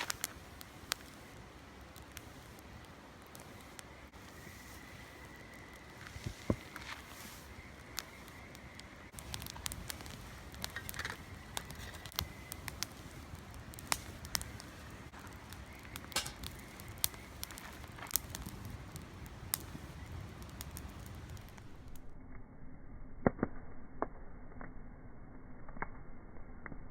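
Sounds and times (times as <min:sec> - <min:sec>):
wood fire crackling: 0:00.0 - 0:22.2.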